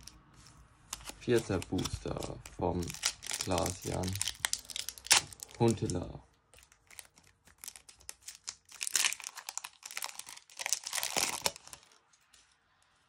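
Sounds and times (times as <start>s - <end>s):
foil wrapper crinkling: 0.0s - 12.1s.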